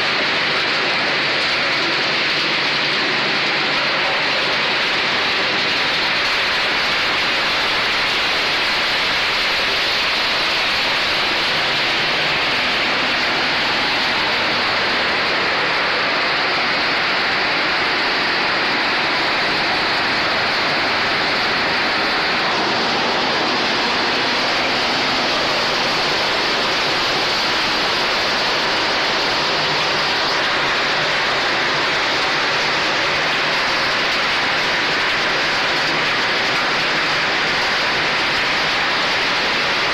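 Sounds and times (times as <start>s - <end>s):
water spraying and splashing: 0.0s - 39.9s.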